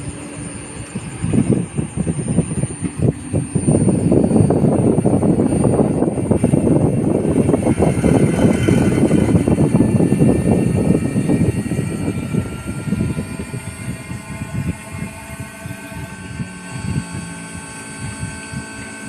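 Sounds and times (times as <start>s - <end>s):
air conditioner fan rush: 0.0s - 19.0s
faint rising whine: 0.0s - 19.0s
steady mechanical hum: 0.0s - 19.0s.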